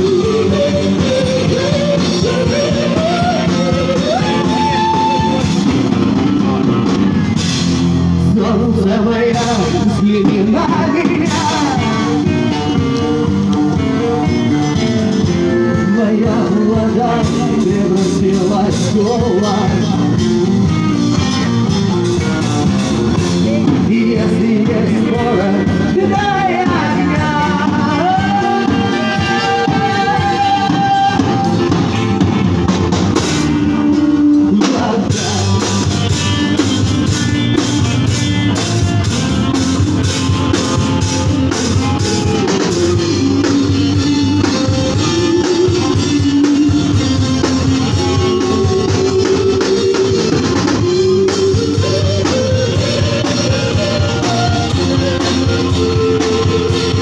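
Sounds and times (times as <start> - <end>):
drums: 0.0 - 57.0
electric guitar lead: 0.0 - 57.0.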